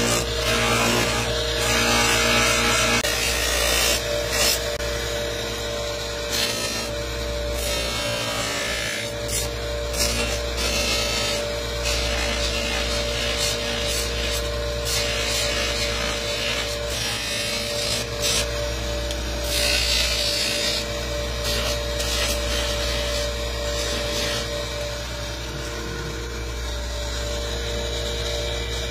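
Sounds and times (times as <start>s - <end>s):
polishing motor humming: 0.0s - 28.9s.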